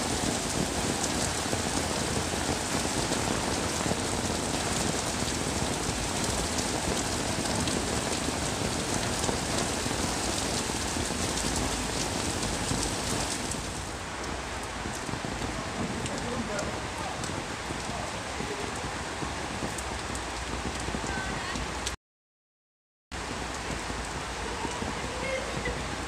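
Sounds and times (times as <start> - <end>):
heavy rain: 0.0 - 22.0, 23.2 - 26.0.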